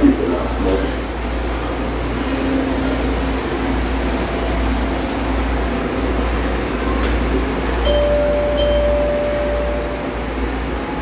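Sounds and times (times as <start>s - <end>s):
subway car rumble and hum: 0.0s - 11.0s.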